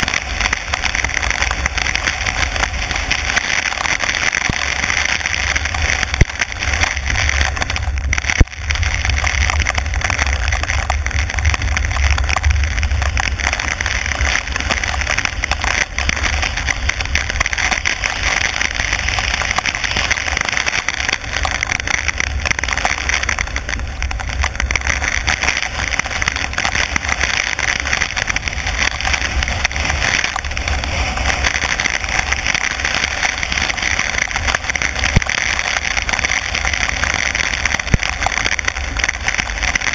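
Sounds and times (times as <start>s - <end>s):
heavy rain: 0.0s - 39.9s
low rumble: 0.0s - 39.9s
tyres on wet road: 0.0s - 39.9s.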